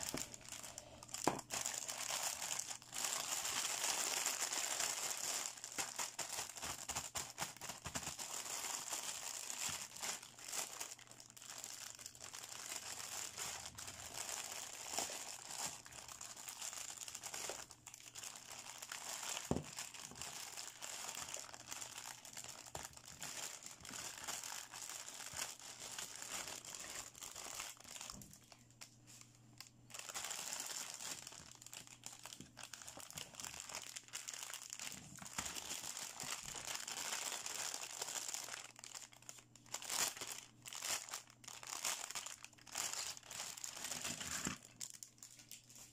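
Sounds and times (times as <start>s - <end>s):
plastic bags crinkling: 0.0s - 45.9s.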